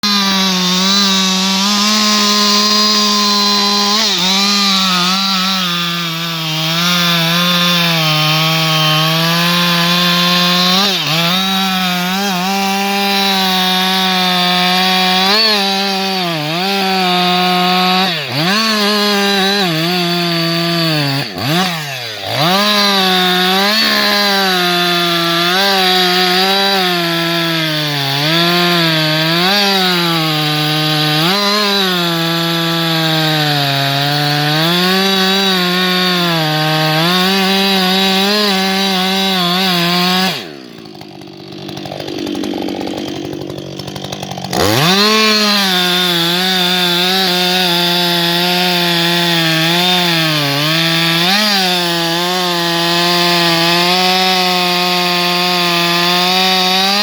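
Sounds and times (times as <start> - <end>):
chainsaw sawing wood: 0.0 - 57.0.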